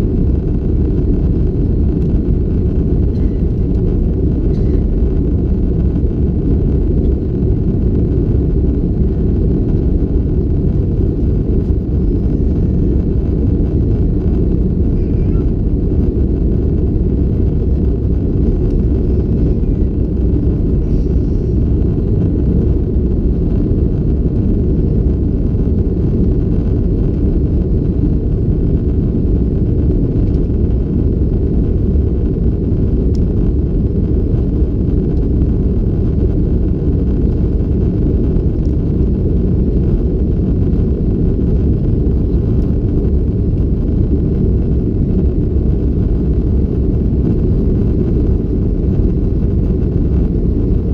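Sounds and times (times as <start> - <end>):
aircraft cabin engine rumble: 0.0 - 50.9.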